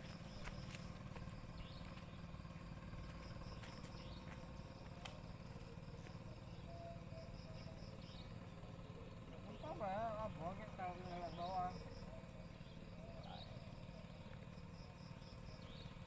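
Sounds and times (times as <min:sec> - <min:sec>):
insects chirping: 0:00.0 - 0:16.0
steady low hum: 0:00.0 - 0:16.0.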